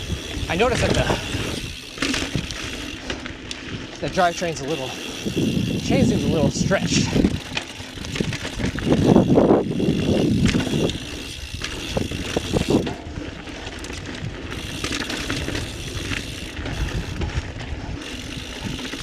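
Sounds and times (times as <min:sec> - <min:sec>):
bike chain rattling and knocking: 0:00.0 - 0:19.0
bike tyres on dirt: 0:00.0 - 0:19.0.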